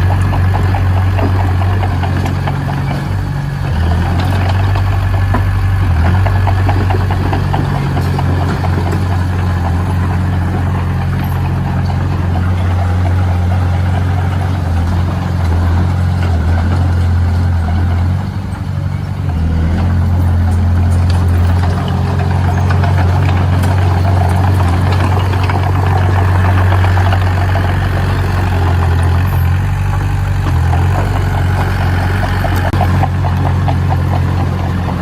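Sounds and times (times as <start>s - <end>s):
construction machine engine droning: 0.0s - 35.0s.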